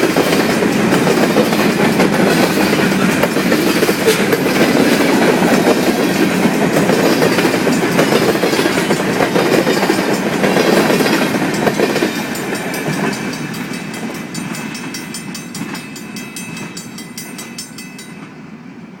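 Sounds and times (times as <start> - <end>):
train wheels clattering on rails: 0.0 - 18.4.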